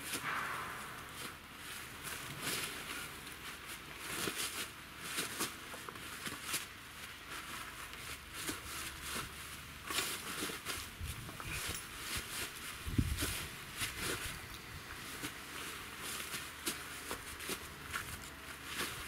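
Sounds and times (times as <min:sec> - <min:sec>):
tent canvas being handled: 0:00.0 - 0:19.0
footsteps in dry leaves: 0:00.2 - 0:19.0.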